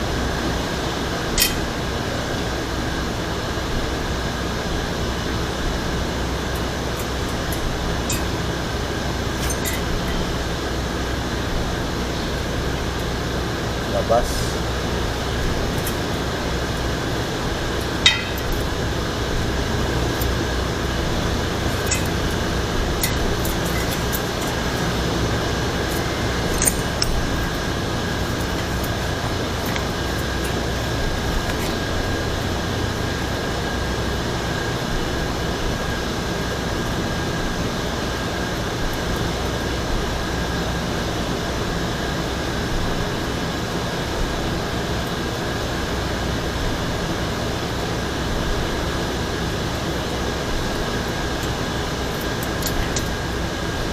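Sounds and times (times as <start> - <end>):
steady background hum: 0.0 - 53.9.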